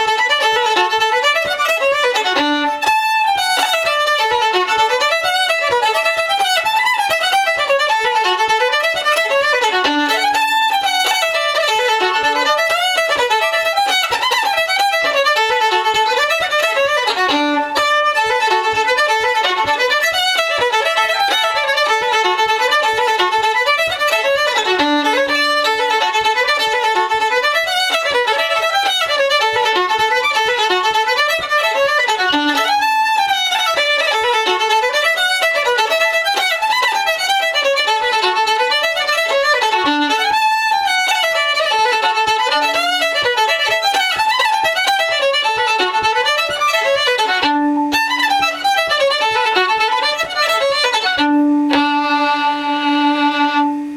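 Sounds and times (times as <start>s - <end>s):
solo fiddle playing a reel: 0.0s - 53.9s.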